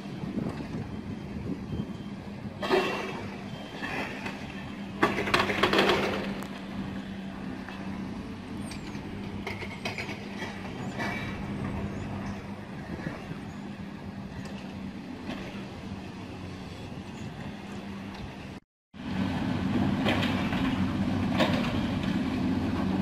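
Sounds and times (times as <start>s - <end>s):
diesel excavator engine running: 0.1s - 23.0s.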